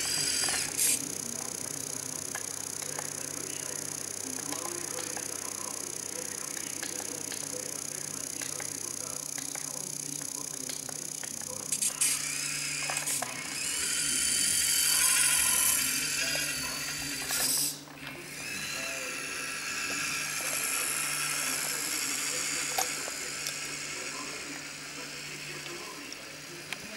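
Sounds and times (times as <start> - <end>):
electric motor whine and rattle: 0.0 - 26.9.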